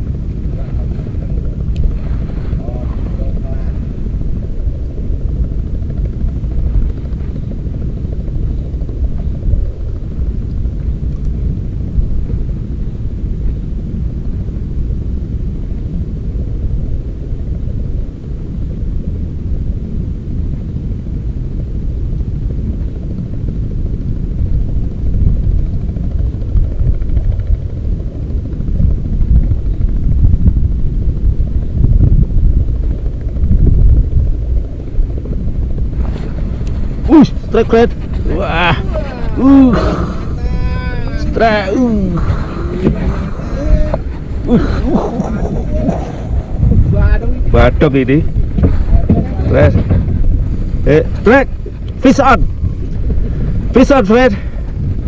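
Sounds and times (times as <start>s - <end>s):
boat motor rumble: 0.0s - 55.0s.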